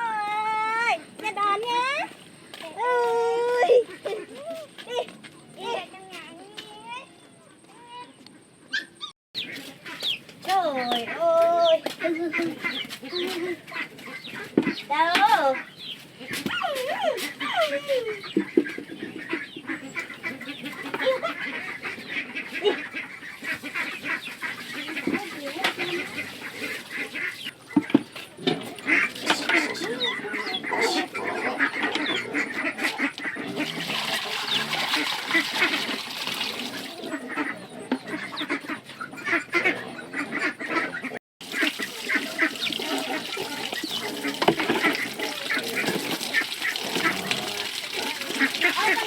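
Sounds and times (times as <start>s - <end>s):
chickens clucking: 0.0s - 49.0s
ducks quacking: 0.3s - 5.8s, 9.4s - 49.0s.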